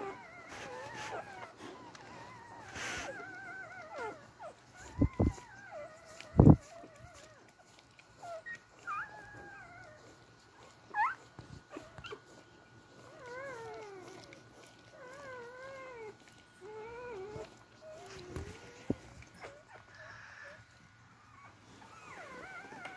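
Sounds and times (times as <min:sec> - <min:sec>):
puppies whimpering and squeaking: 0:00.0 - 0:22.9.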